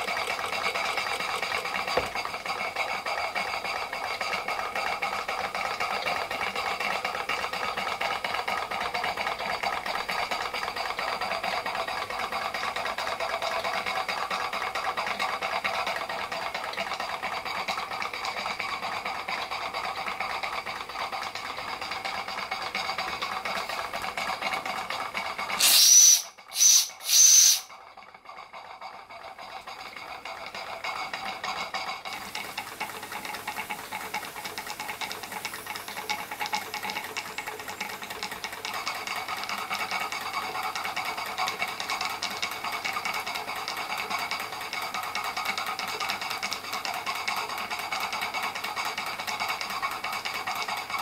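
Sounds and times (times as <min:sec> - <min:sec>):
model steam engine running: 0:00.0 - 0:51.0.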